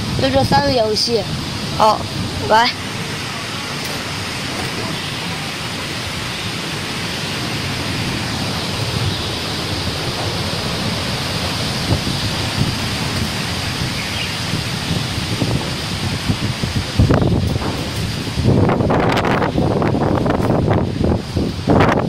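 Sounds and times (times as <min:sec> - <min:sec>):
heavy rain and wind: 0:00.0 - 0:22.0.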